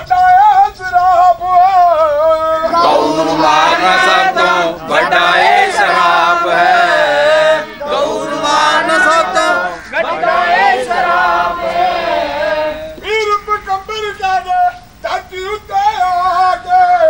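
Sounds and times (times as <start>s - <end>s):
voices singing devotional song: 0.0s - 17.0s.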